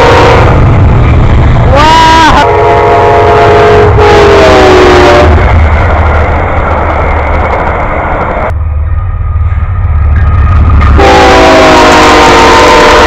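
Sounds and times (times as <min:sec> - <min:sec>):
freight train rumble: 0:00.0 - 0:13.0
train wheels rumbling on rail: 0:00.0 - 0:13.0.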